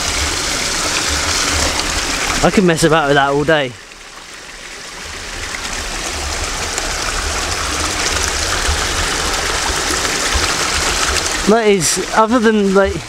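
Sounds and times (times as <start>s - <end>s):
water pouring over weir: 0.0s - 13.0s.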